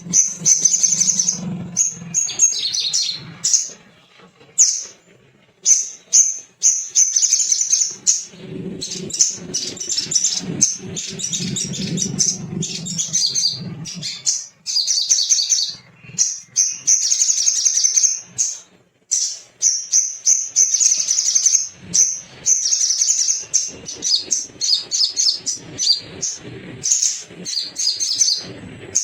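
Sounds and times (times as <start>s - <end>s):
bird calling high chip notes: 0.0s - 3.8s, 5.6s - 29.0s.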